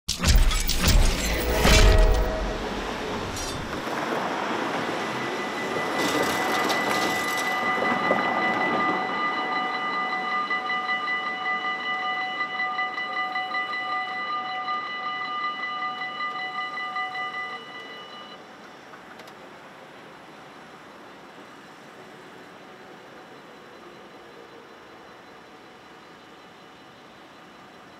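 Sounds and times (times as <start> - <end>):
level crossing warning bells: 0.1 - 18.9, 19.5 - 27.9.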